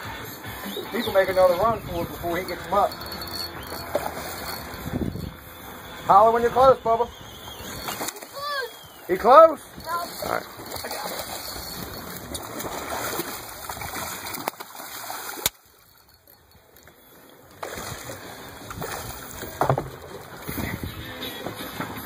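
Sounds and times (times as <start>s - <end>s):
water splashing and sloshing: 0.5s - 6.0s, 7.6s - 22.0s.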